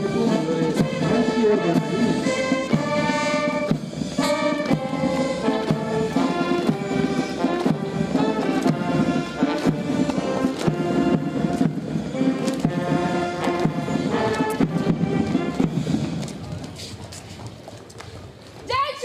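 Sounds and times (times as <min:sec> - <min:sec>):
brass band playing a march: 0:00.0 - 0:16.5
steady drum beat: 0:00.0 - 0:16.6.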